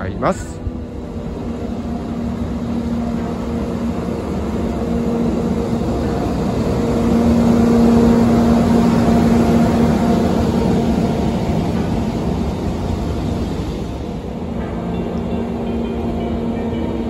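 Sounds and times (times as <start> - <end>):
locomotive blower hum: 0.0 - 17.0
wheel-on-rail rumble: 0.0 - 17.0.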